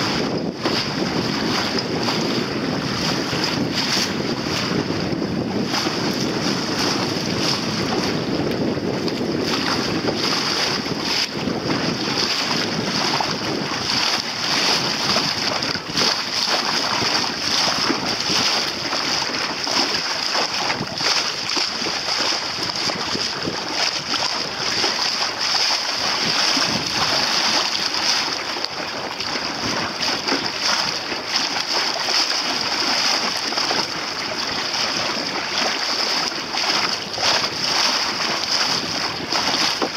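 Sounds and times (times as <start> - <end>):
choppy water slapping boat: 0.0 - 39.9
wind buffeting microphone: 0.0 - 39.9.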